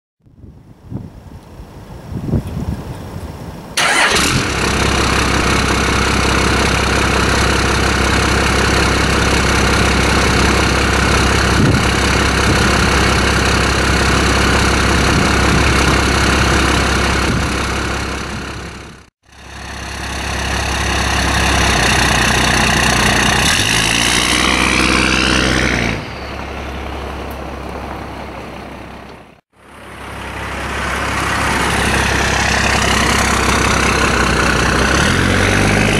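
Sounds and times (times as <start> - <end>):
diesel engine revving: 3.8 - 35.9
diesel engine starting and idling: 3.8 - 35.9.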